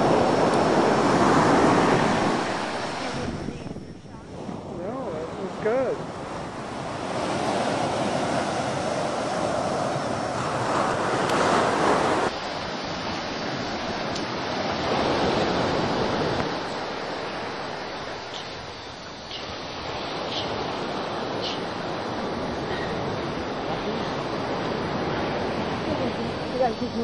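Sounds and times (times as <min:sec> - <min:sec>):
ocean surf breaking on sand: 0:00.0 - 0:27.0.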